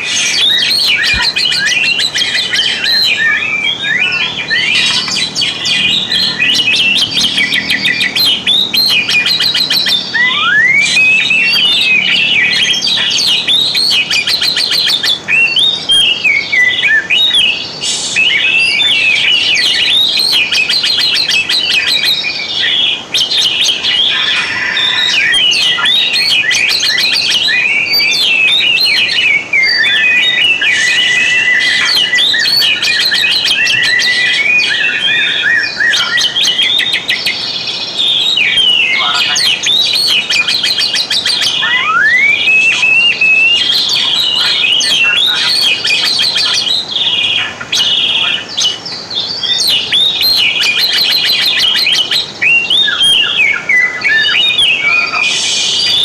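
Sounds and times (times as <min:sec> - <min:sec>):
bird singing chirps and whistles: 0:00.0 - 0:56.0.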